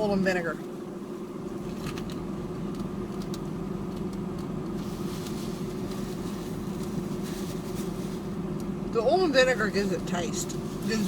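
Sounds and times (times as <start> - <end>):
air conditioning running: 0.0 - 11.0
car engine idling: 0.0 - 11.0.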